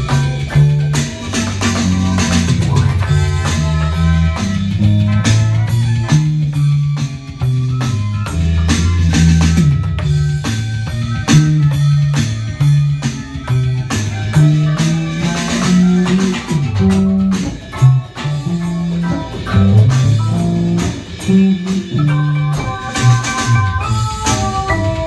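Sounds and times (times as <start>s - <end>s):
drum kit: 0.0s - 25.0s
electric bass guitar: 0.0s - 25.0s
electronic keyboard: 0.0s - 25.0s.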